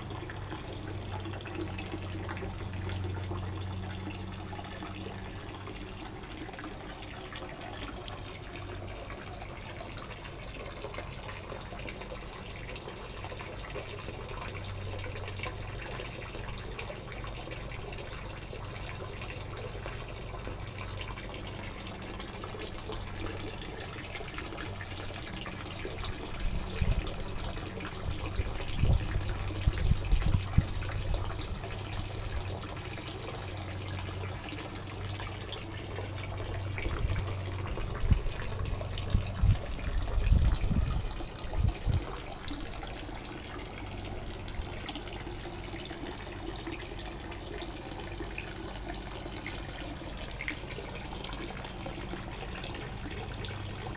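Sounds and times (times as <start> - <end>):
fountain splashing into pond: 0.0 - 53.9.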